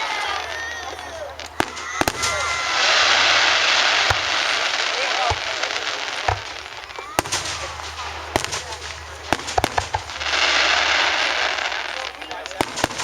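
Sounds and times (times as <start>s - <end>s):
firework bangs: 0.0s - 13.0s
firework crackling: 0.0s - 13.0s.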